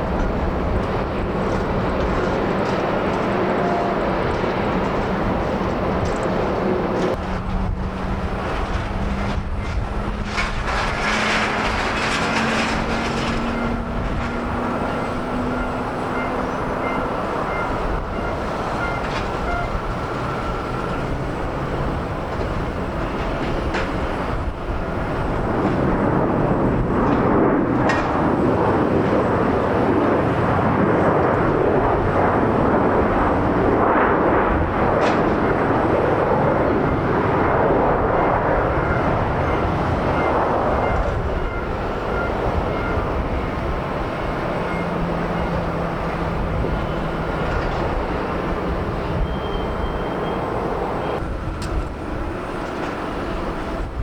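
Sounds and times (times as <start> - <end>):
jet airliner engines: 0.0 - 54.0.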